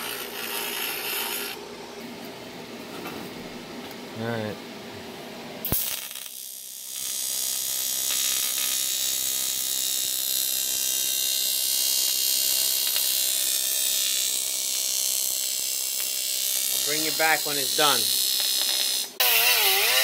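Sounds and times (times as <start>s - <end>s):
welding arc buzzing hiss: 0.0s - 1.6s, 5.6s - 20.0s.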